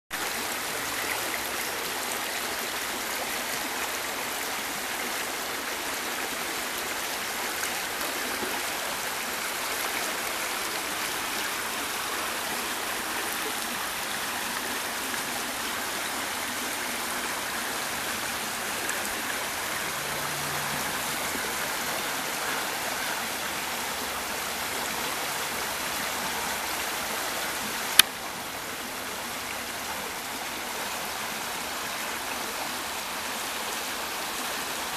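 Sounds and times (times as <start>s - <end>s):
creek water running over rocks: 0.1s - 34.9s.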